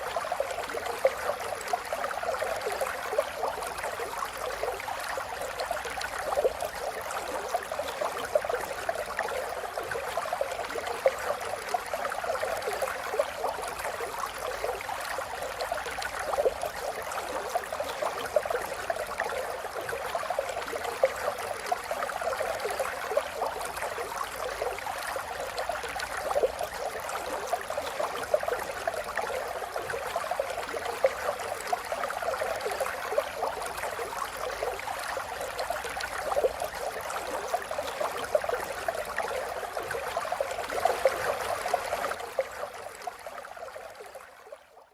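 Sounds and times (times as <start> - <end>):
river water flowing: 0.0 - 44.6.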